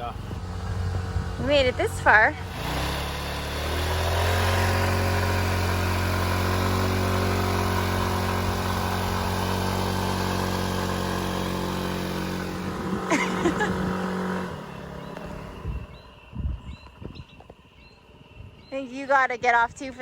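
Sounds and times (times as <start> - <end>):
scooter engine revving uphill: 0.0 - 17.7.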